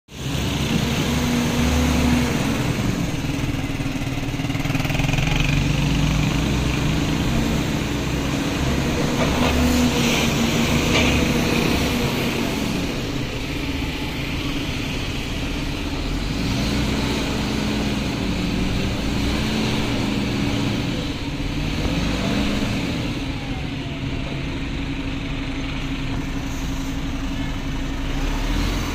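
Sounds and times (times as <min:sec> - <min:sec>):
traffic noise: 0:00.1 - 0:28.9
vehicle engine hum: 0:00.1 - 0:28.9.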